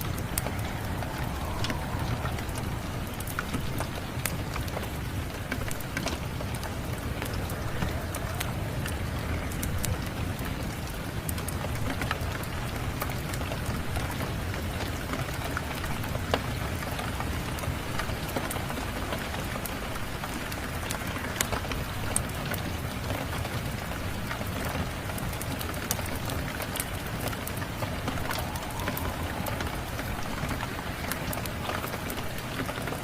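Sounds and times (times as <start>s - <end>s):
steady rain with low rumble: 0.0s - 33.0s
wood fire crackling and popping: 0.0s - 33.0s.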